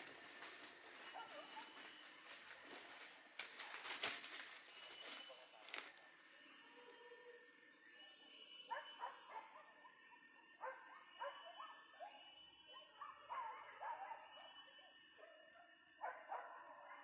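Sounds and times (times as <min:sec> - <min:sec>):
high insect tone: 0:00.0 - 0:17.0.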